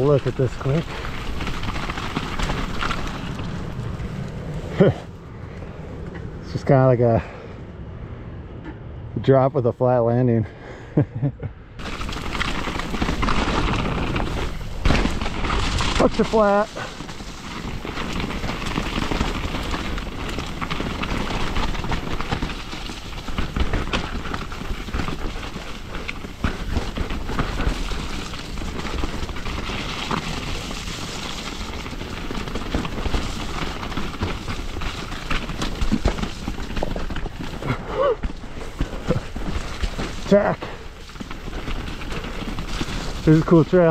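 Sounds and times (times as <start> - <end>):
bike rattling over stones: 0.0 - 7.4, 11.8 - 43.9
bike tyres rumbling over dirt: 0.0 - 7.6, 11.8 - 43.9.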